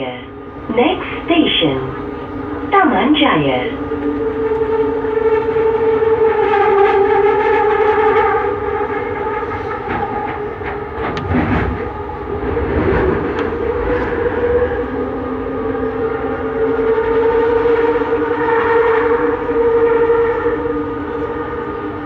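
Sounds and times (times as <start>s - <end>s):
train motor whine: 0.0s - 22.0s.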